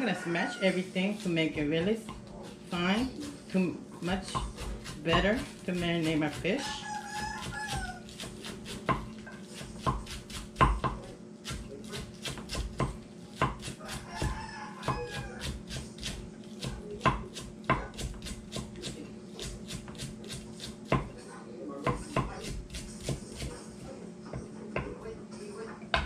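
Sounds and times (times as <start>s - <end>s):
knife chopping herbs on wood: 1.1s - 21.2s, 21.8s - 23.6s.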